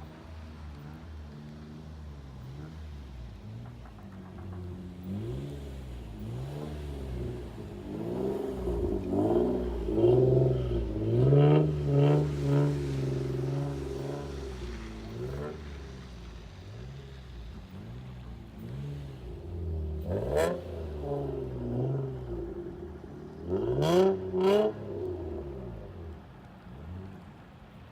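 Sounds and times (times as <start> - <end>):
car engine revving: 0.6 - 27.4.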